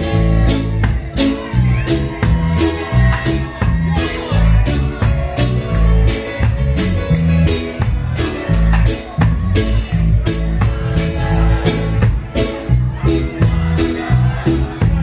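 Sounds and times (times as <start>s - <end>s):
drum kit: 0.0s - 15.0s
heavy bass line: 0.0s - 15.0s.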